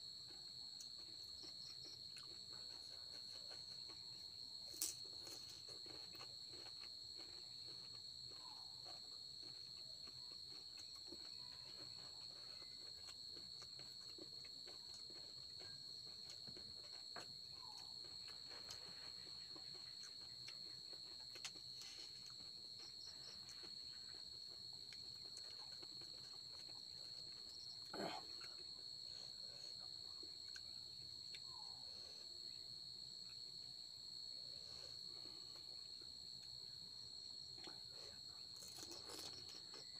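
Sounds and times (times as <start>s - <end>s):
crickets chirring: 0.1s - 39.9s
crunchy eating sounds: 0.1s - 39.9s.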